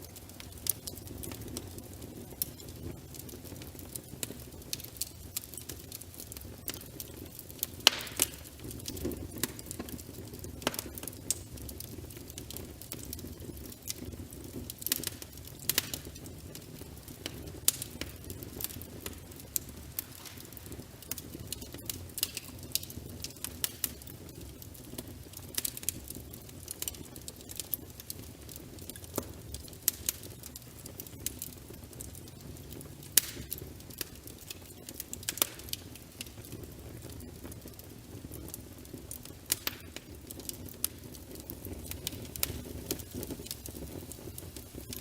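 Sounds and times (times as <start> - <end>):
low rumble of flames: 0.0 - 45.0
wood fire popping and snapping: 0.0 - 45.0.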